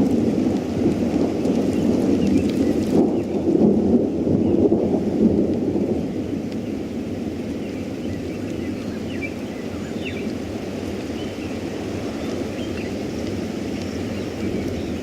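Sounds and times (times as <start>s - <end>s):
thunderstorm: 0.0s - 15.0s
wind rumble: 0.0s - 15.0s.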